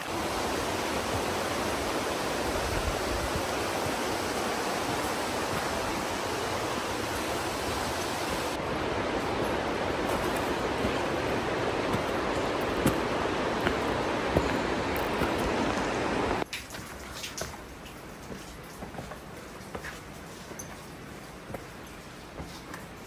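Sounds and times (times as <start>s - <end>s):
rushing river water: 0.0s - 23.0s.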